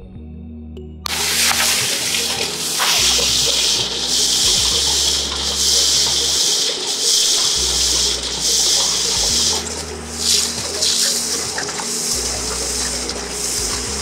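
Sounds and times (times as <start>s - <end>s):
concrete rushing from pump hose: 1.1s - 14.0s.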